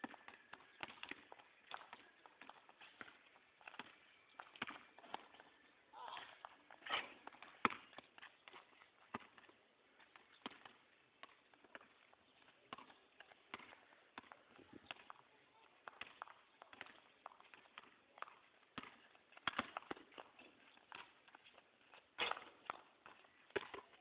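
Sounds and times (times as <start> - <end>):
basketball bouncing on concrete: 0.0 - 5.5, 6.1 - 21.4, 22.2 - 24.0.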